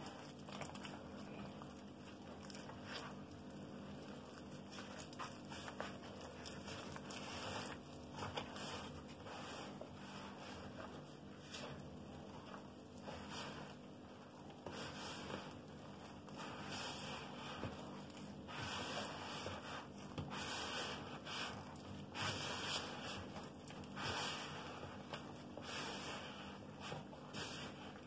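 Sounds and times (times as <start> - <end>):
hand kneading dough in a bowl: 0.0 - 28.0.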